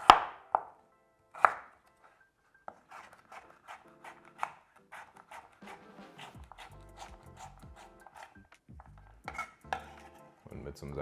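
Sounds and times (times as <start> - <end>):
knife cutting cucumber: 0.0 - 0.6, 1.4 - 2.0, 2.7 - 10.2.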